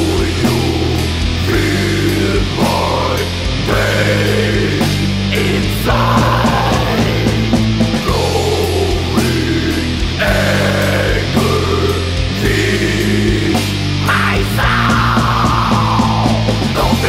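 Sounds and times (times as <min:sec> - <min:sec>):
bass guitar: 0:00.0 - 0:17.0
distorted electric guitars: 0:00.0 - 0:17.0
drums: 0:00.0 - 0:17.0
guitar melody sliding down: 0:00.0 - 0:17.0.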